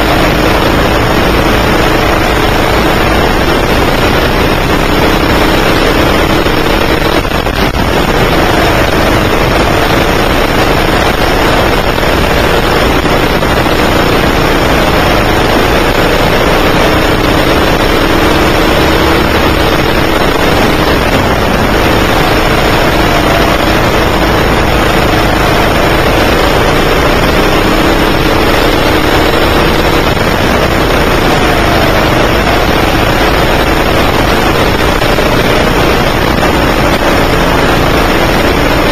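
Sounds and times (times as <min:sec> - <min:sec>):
go-kart engine revving: 0:00.0 - 0:38.9
steady dense hiss: 0:00.0 - 0:38.9.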